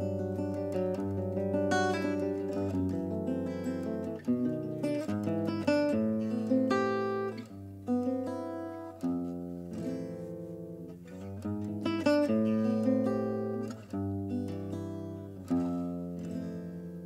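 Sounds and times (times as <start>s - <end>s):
acoustic guitar strummed chords: 0.0s - 17.0s.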